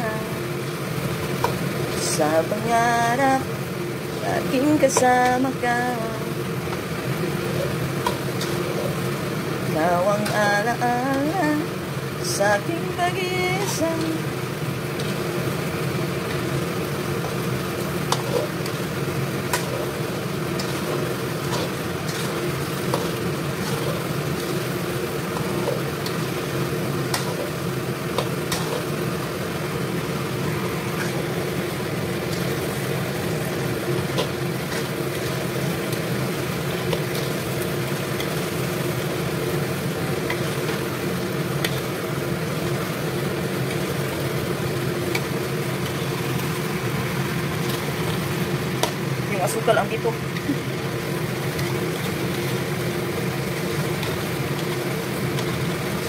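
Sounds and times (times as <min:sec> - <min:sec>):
steady low hum: 0:00.0 - 0:53.2
food sizzling in hot oil: 0:00.0 - 0:56.0.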